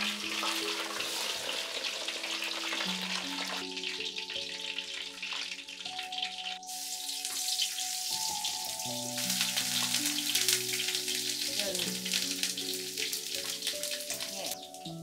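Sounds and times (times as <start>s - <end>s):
hot oil sizzling in a wok: 0.0s - 15.0s.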